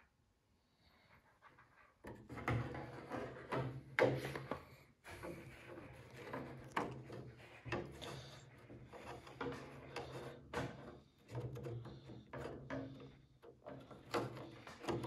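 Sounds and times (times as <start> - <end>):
push rod scraping against wood: 2.2 - 15.0.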